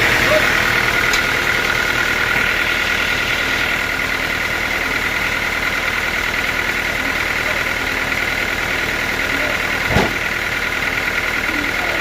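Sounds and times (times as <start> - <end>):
machinery engine drone: 0.0 - 12.0
steady high whine: 0.0 - 12.0.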